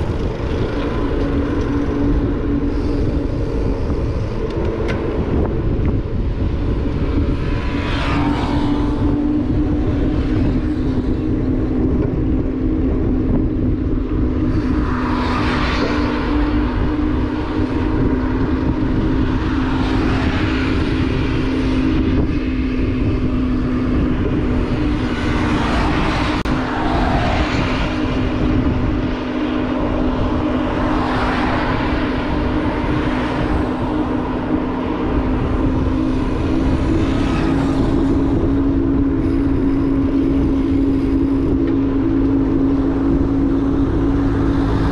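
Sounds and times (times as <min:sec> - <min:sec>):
motorbike engine cruising: 0:00.0 - 0:44.9
wind rumble on microphone: 0:00.0 - 0:44.9.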